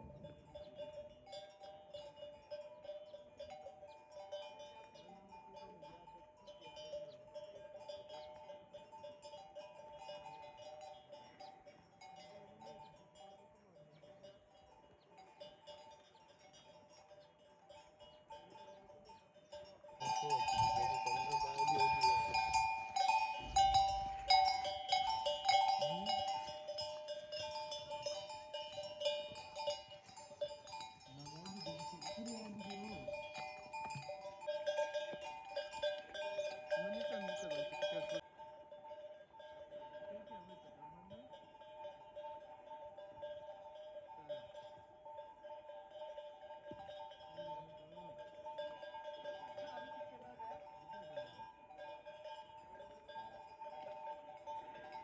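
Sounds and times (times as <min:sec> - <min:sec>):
livestock bells clanking: 0:00.0 - 0:55.0.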